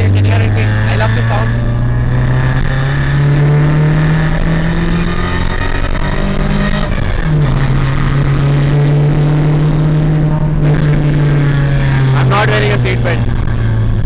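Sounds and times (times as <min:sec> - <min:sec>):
car engine drone from inside: 0:00.0 - 0:14.0.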